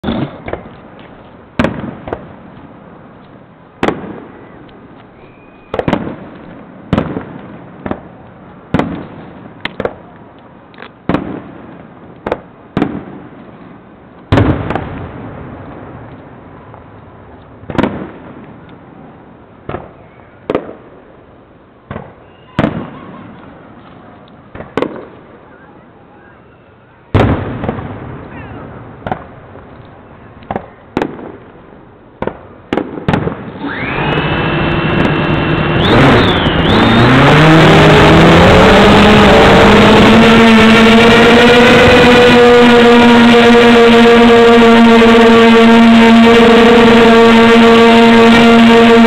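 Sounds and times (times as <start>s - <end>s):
fireworks booming: 0.0s - 10.1s, 11.0s - 18.7s, 19.6s - 21.2s, 21.8s - 23.8s, 24.5s - 25.5s, 27.1s - 49.0s.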